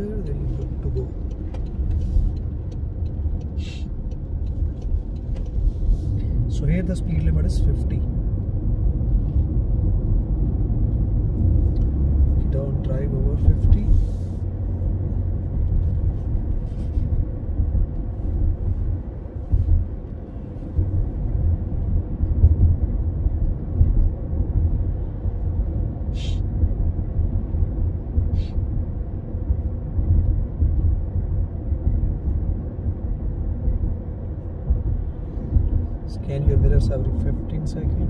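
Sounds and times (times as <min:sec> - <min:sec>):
car road and engine rumble: 0:00.0 - 0:38.0.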